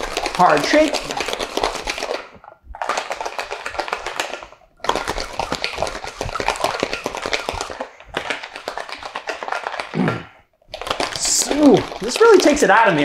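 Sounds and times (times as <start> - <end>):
ice rattling in metal shaker: 0.0 - 10.0, 10.7 - 13.0.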